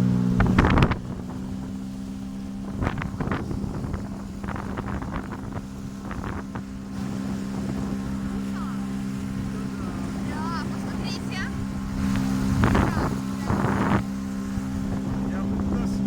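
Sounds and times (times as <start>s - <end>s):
motorboat engine humming: 0.0s - 16.0s
short rushes of water: 0.0s - 16.0s
wind on microphone: 0.0s - 16.0s.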